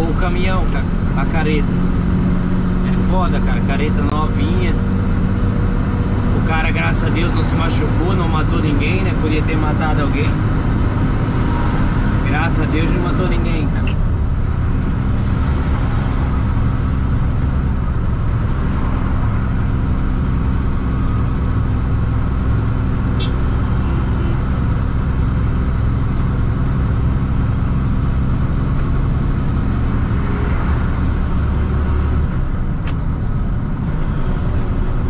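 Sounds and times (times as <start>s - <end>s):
road noise: 0.0s - 35.0s
truck engine drone: 0.0s - 35.0s.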